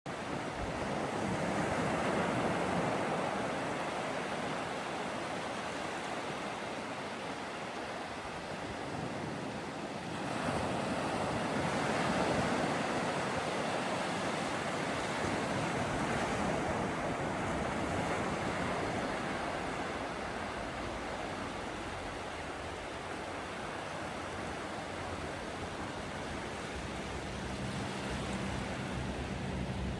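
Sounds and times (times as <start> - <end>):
ocean waves breaking: 0.1 - 29.9.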